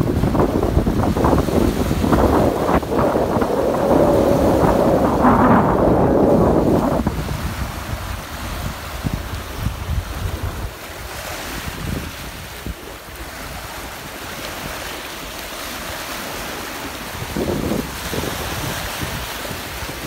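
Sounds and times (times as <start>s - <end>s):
sea waves washing onto shore: 0.0s - 20.0s
wind buffeting microphone: 0.0s - 20.0s.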